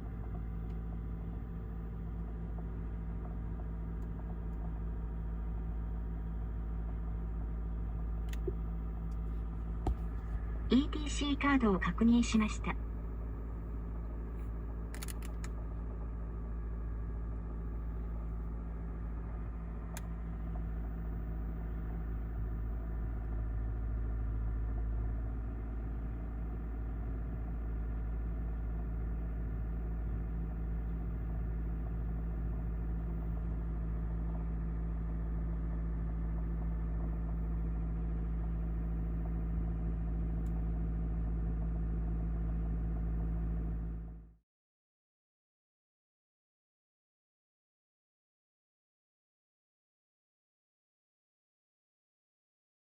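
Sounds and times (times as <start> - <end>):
car cabin low buzzing hum: 0.0 - 44.3.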